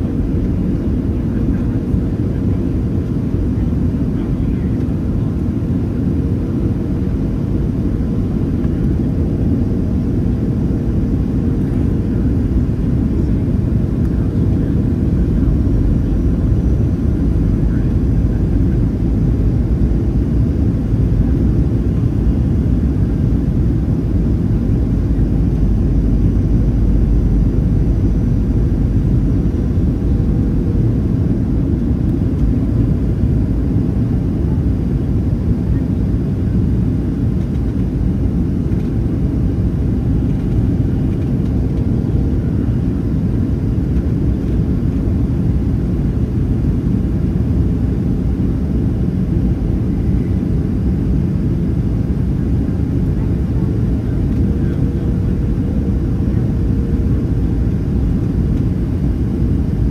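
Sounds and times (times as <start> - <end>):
low rumble inside airplane cabin: 0.0 - 59.9.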